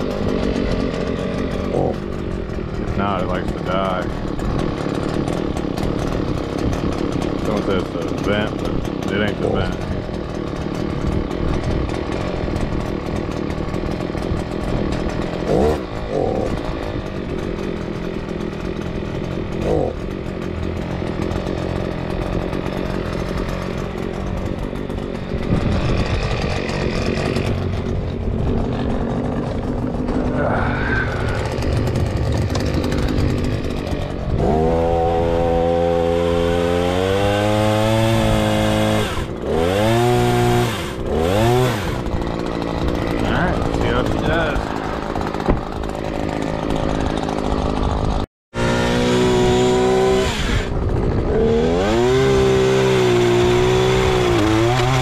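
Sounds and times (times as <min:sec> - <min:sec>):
two-stroke pole saw engine running: 0:00.0 - 0:55.0.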